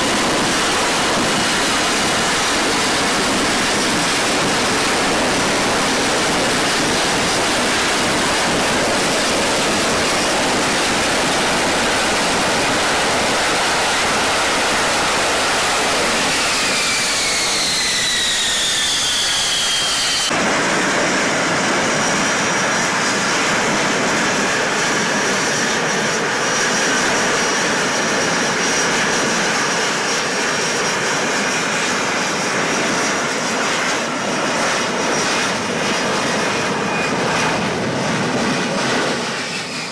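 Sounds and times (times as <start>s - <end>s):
jet engine roaring: 0.0s - 39.9s.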